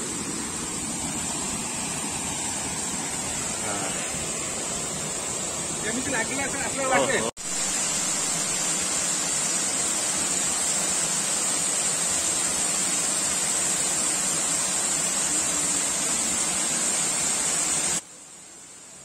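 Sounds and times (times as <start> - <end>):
quiet hiss: 0.0 - 19.0
waterfall rushing over rocks: 0.0 - 19.0.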